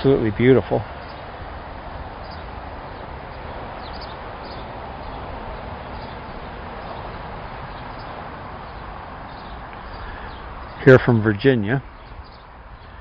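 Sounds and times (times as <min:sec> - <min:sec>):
outdoor hiss and rumble: 0:00.0 - 0:13.0.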